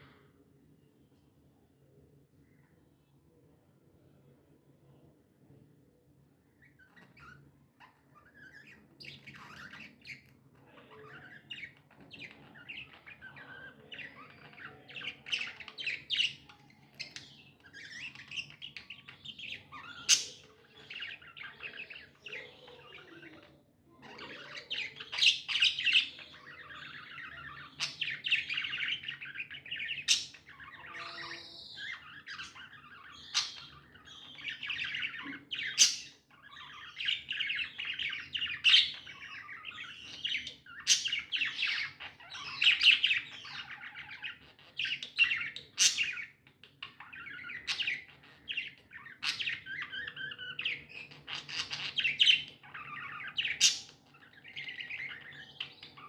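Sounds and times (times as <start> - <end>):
budgerigars chattering: 6.8 - 56.0.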